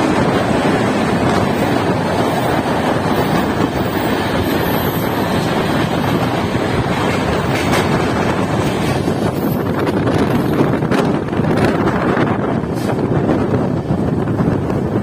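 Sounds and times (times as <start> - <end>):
train wheel and rail rumble: 0.0 - 15.0
wind buffeting microphone: 0.0 - 15.0.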